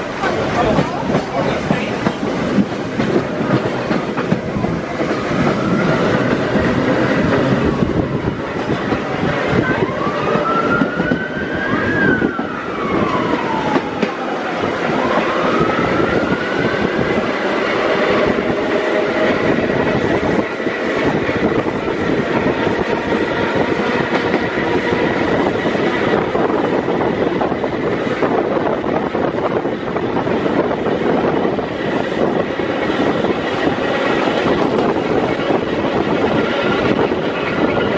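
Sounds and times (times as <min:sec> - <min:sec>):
subway car rumble and rattle: 0:00.0 - 0:37.9.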